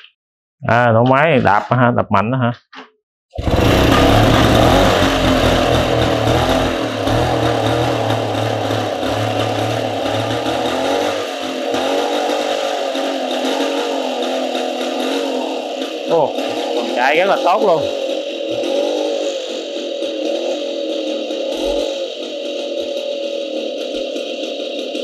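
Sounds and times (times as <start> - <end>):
moped two-stroke engine running: 3.4 - 25.0.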